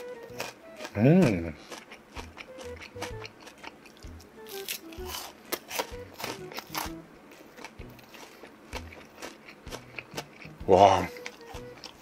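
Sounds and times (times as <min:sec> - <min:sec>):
crunching and chewing crisp food: 0:00.0 - 0:12.0
quiet background music: 0:00.0 - 0:12.0.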